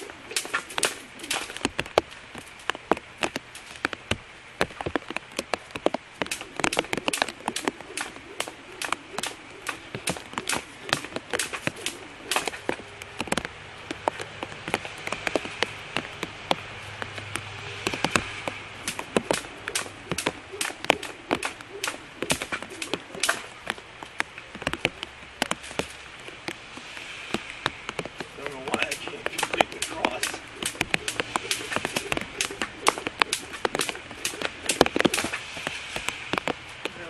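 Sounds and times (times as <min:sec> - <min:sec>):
rain hissing: 0:00.0 - 0:37.0
sharp taps and slaps of rain: 0:00.0 - 0:37.0.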